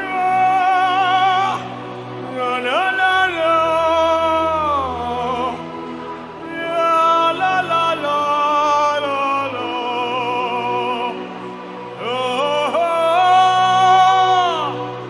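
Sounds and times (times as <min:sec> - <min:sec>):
low musical accompaniment: 0:00.0 - 0:15.0
person singing gospel: 0:00.0 - 0:15.0.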